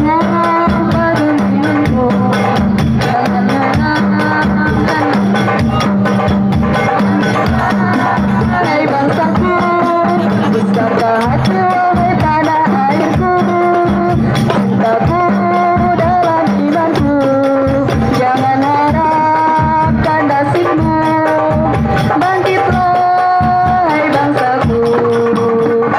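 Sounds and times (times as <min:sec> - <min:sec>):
woman singing devotional song: 0:00.0 - 0:05.8, 0:07.3 - 0:25.9
hand drum percussion: 0:00.0 - 0:25.9.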